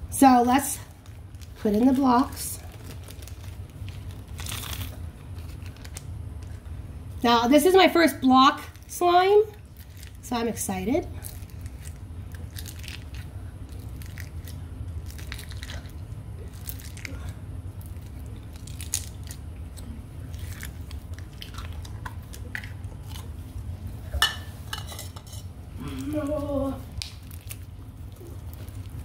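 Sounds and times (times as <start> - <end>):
steady low hum: 0.0 - 29.0
slime crunching and squishing: 0.2 - 6.6, 9.5 - 23.9, 26.0 - 29.0.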